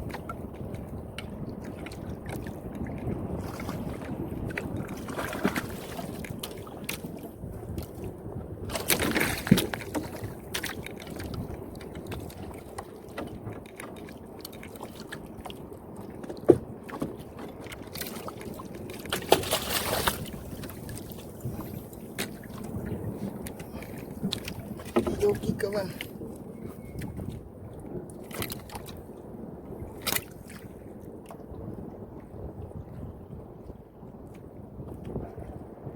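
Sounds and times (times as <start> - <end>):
water lapping at shore: 0.0 - 33.0.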